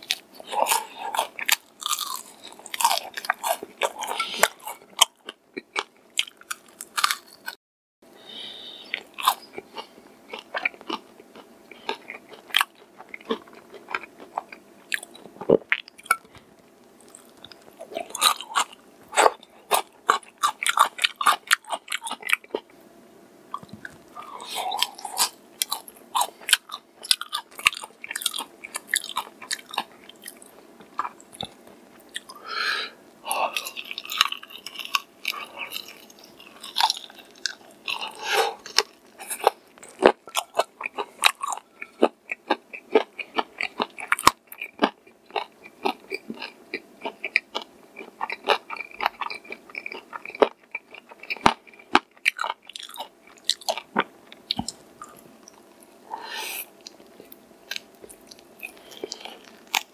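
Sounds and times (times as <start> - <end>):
crunchy chewing of fried chicken: 0.0 - 7.6, 8.6 - 22.8, 23.6 - 32.5, 33.2 - 59.9.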